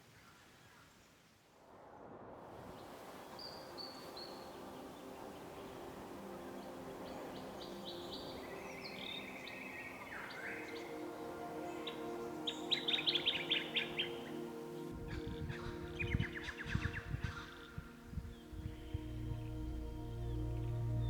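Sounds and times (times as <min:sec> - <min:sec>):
outdoor background hiss: 0:00.0 - 0:21.0
wild birds calling: 0:03.2 - 0:21.0.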